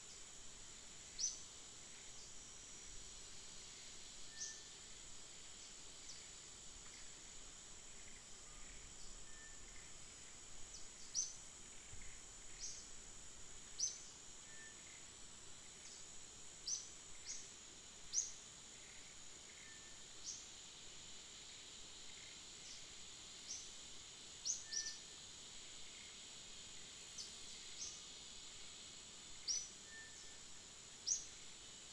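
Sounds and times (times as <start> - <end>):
insect drone: 0.0 - 31.9.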